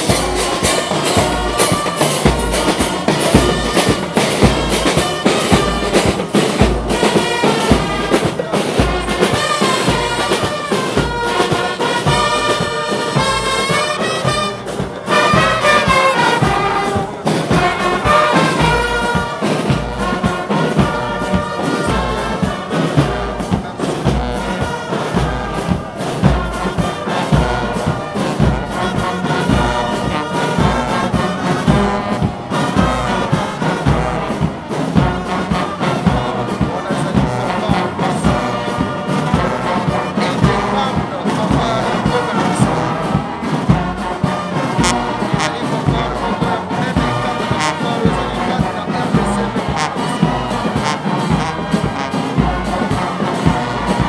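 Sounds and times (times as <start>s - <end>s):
brass marching band: 0.0s - 54.0s.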